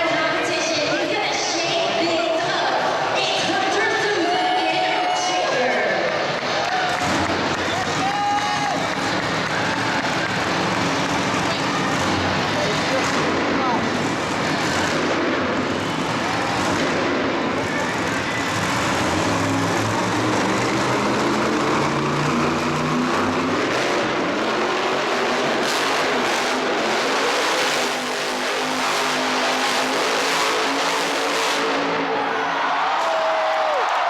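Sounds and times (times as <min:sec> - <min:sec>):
monster truck engine revving: 0:00.0 - 0:33.4.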